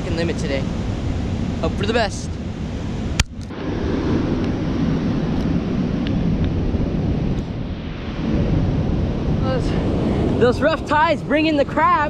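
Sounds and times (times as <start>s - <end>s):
breaking surf: 0.0s - 12.0s
wind buffeting microphone: 0.0s - 12.0s.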